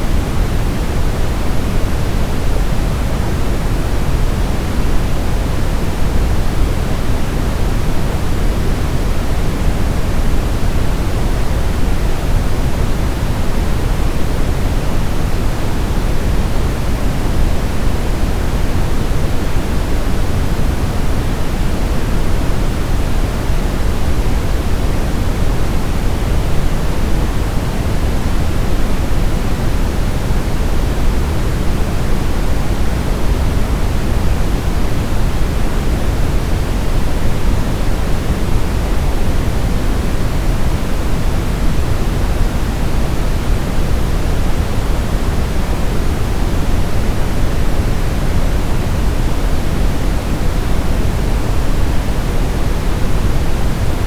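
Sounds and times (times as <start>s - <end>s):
steady low pink noise hiss: 0.0s - 54.0s.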